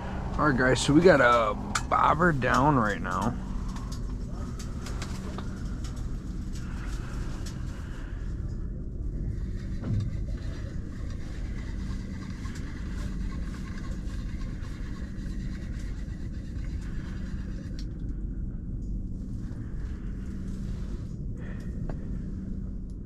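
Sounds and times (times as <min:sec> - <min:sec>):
constant hum: 0:00.0 - 0:23.0
steady low rumble: 0:00.0 - 0:23.0.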